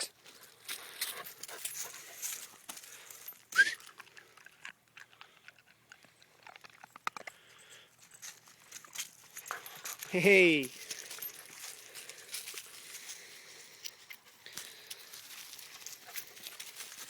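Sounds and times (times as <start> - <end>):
puppies scuffling and chewing: 0.2 - 17.0.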